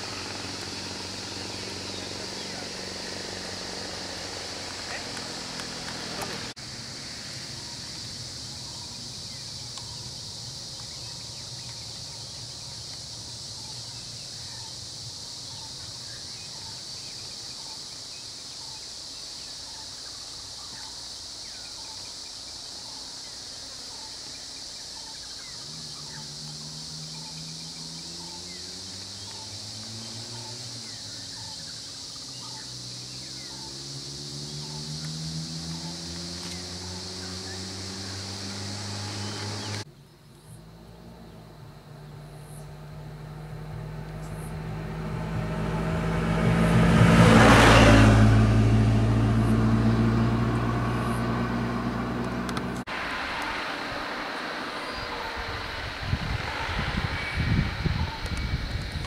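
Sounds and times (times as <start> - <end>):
vehicle engines accelerating: 0.0 - 18.8, 24.9 - 59.0
forest insects droning: 0.0 - 59.0.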